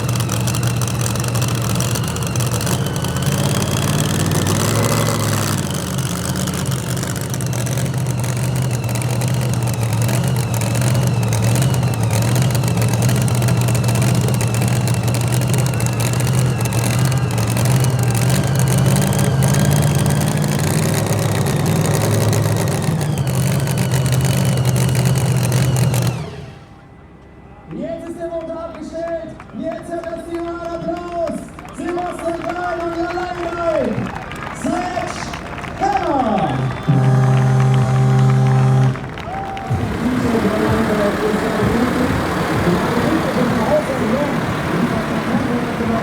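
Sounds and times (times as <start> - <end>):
tractor engine idling: 0.0 - 46.0.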